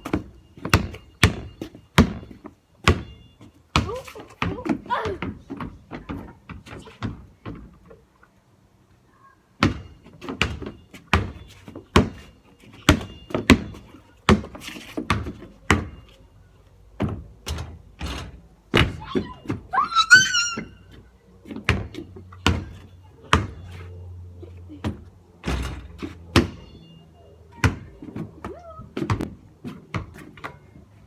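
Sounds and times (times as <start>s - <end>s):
basketball bouncing on hard ground: 0.0s - 7.9s, 9.6s - 16.2s, 17.0s - 23.9s, 24.8s - 31.0s.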